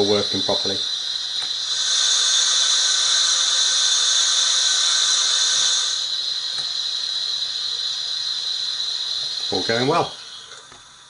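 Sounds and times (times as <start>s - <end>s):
steam hiss from small speaker: 0.0s - 11.0s.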